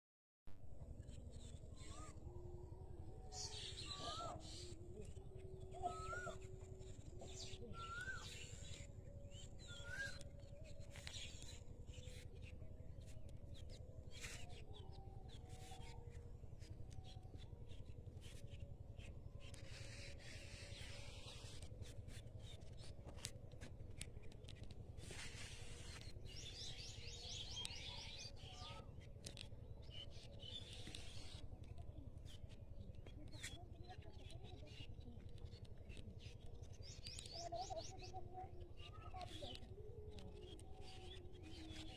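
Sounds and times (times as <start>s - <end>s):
low hum: 0.5s - 41.9s
small birds chirping: 3.2s - 41.9s.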